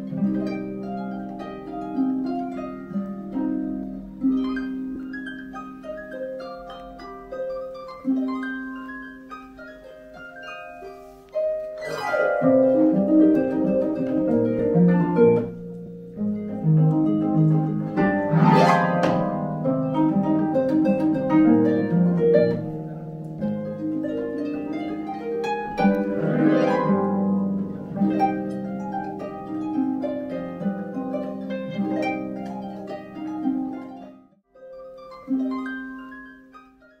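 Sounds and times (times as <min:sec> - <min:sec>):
harp playing: 0:00.0 - 0:37.0.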